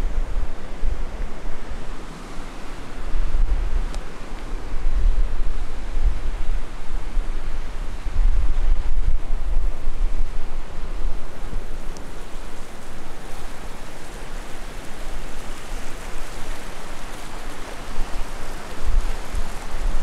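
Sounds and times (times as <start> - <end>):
river flowing over rocks: 0.0 - 20.0
wind buffeting microphone: 0.0 - 20.0.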